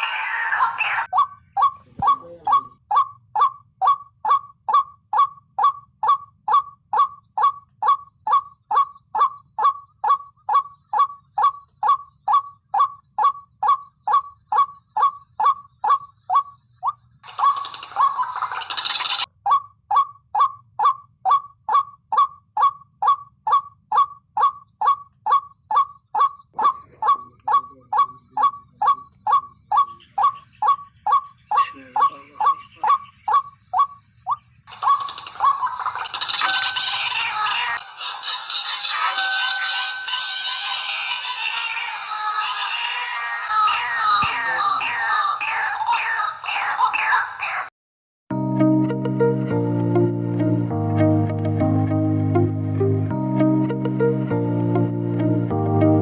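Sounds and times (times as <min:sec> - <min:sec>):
waterhen calling: 0:00.0 - 0:47.7.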